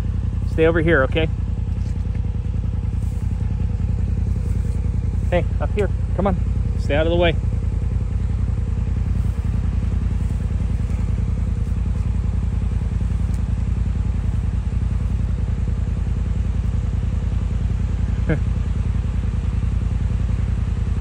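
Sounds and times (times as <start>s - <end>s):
vehicle engine low rumble: 0.0s - 21.0s.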